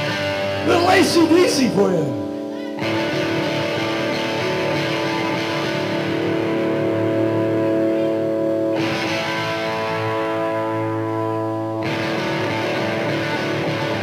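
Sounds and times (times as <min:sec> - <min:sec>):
electric guitar chords ringing: 0:00.0 - 0:14.0.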